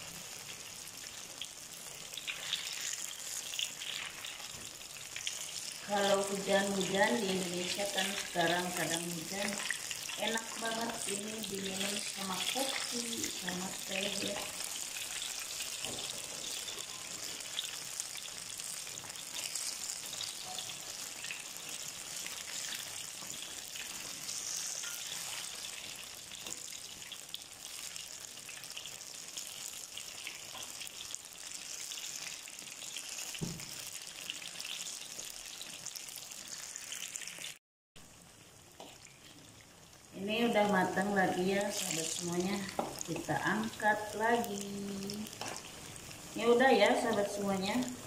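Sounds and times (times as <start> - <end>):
fritters sizzling in hot oil: 0.0 - 48.0.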